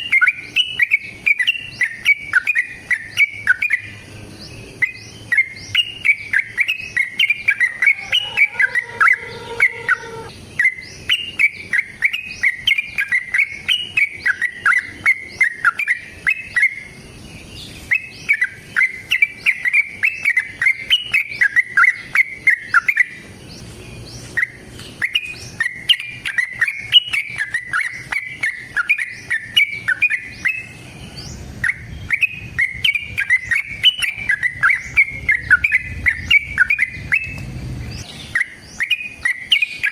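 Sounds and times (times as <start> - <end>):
bulbul singing bubbling chirps: 4.7 - 17.0, 17.8 - 23.2, 24.4 - 37.4, 38.0 - 39.9.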